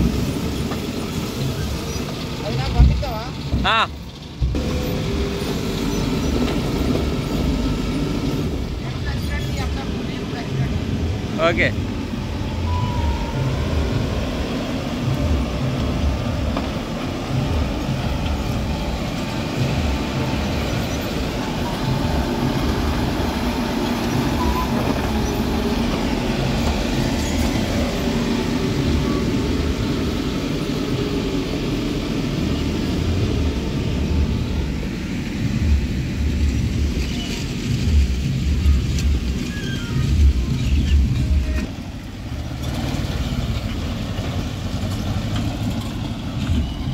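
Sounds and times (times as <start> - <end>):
diesel engine low rumble: 0.0 - 46.9.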